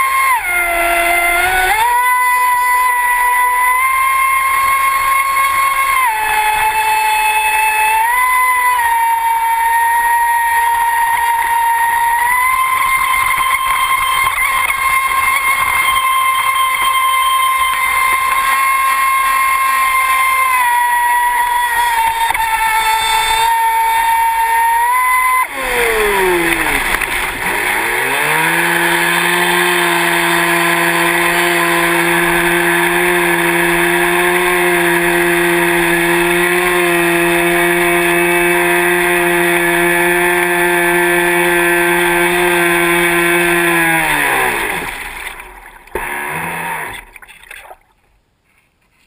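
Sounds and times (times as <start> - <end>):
electric motor whining: 0.0 - 47.2
water rushing on boat hull: 0.0 - 47.8.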